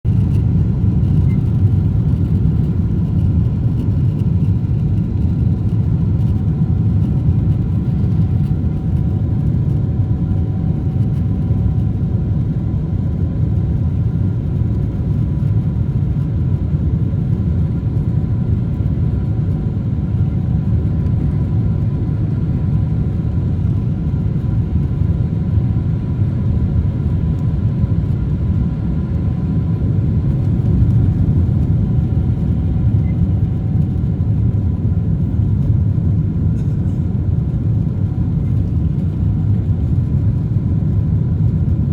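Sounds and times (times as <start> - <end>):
jet engines rumbling: 0.1 - 41.9.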